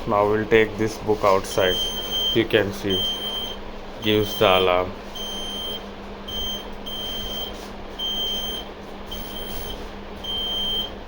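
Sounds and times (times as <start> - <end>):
security gate alarm beeping: 1.6 - 11.0.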